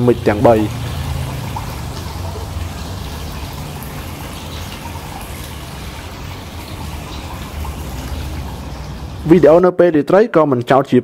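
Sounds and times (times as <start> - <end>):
fountain splashing: 0.0 - 9.7.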